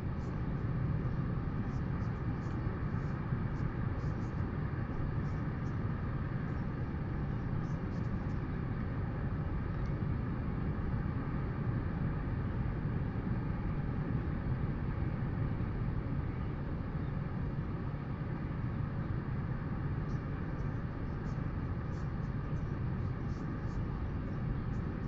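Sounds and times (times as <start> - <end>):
low wind rumble: 0.0 - 25.0.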